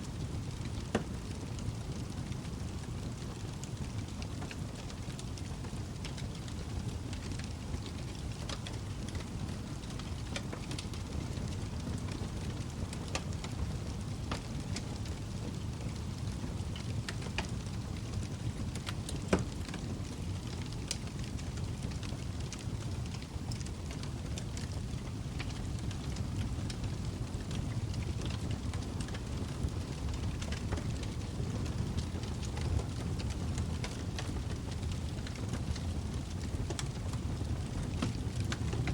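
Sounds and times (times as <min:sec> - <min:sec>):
fire crackling and popping: 0:00.0 - 0:38.9
fire flames rumbling: 0:00.0 - 0:38.9.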